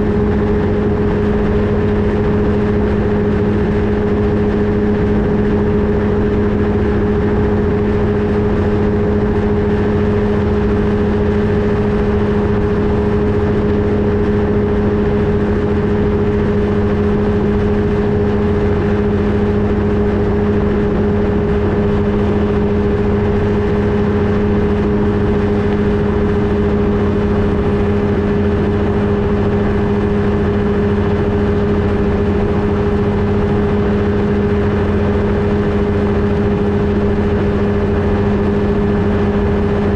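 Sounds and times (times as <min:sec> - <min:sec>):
ultralight aircraft engine droning: 0:00.0 - 0:39.9.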